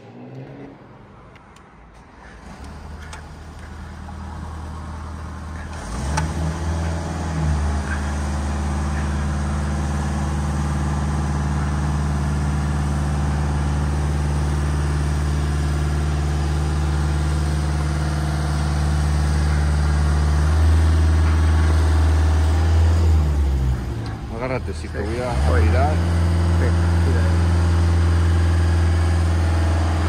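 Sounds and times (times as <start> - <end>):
crane engine humming: 2.2 - 30.0.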